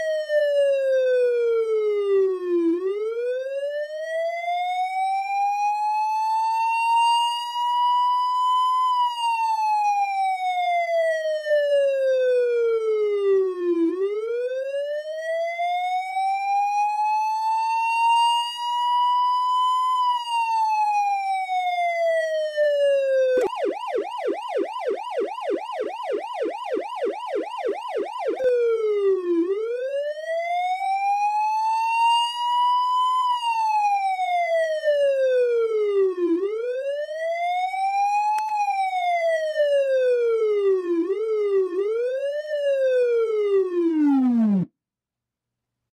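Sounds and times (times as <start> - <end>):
police siren wailing and yelping: 0.0 - 44.7.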